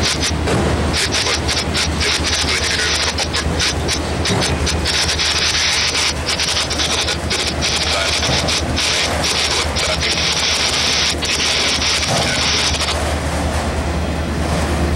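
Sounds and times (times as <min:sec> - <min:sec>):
low train rumble: 0:00.0 - 0:14.9
train wheels rushing on rail: 0:00.0 - 0:14.9.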